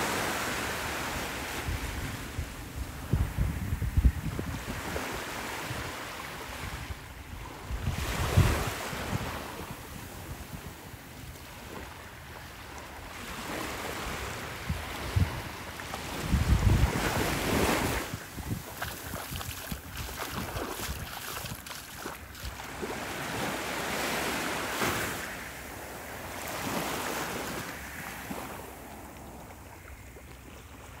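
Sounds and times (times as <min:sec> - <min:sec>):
small waves lapping on shore: 0:00.0 - 0:31.0
wind rumbling on microphone: 0:01.0 - 0:31.0.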